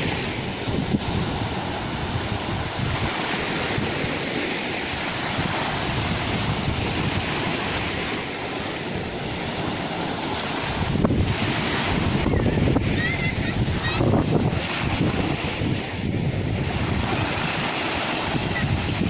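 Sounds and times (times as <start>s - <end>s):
sea waves washing in surf: 0.0s - 19.0s.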